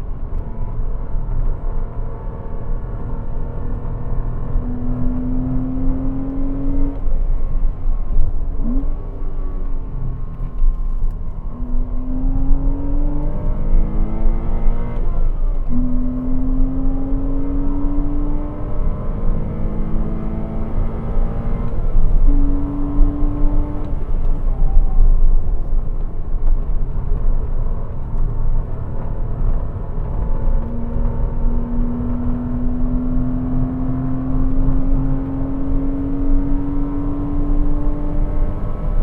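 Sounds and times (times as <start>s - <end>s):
road and wind rumble: 0.0s - 39.0s
car engine revving through gears: 0.2s - 7.6s, 8.5s - 25.4s, 26.5s - 39.0s.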